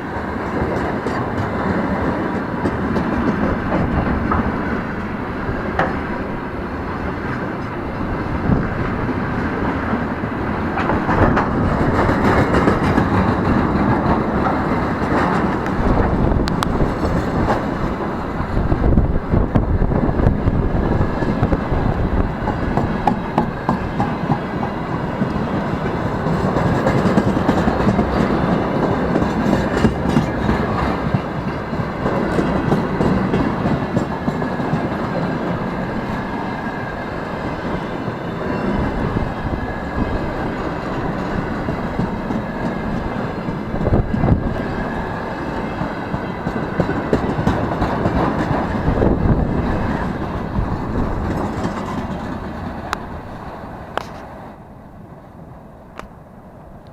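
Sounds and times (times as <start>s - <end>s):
wheels clacking over rail joints: 0.0s - 54.5s
freight train rumbling past: 0.0s - 56.9s.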